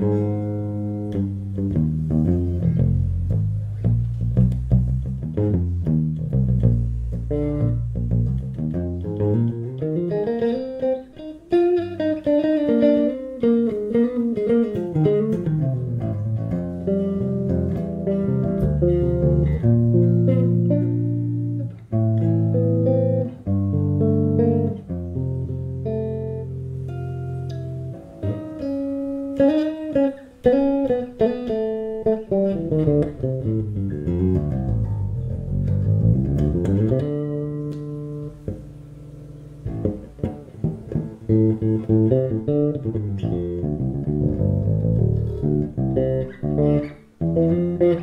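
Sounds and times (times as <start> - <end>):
electric bass playing: 0.0 - 48.0.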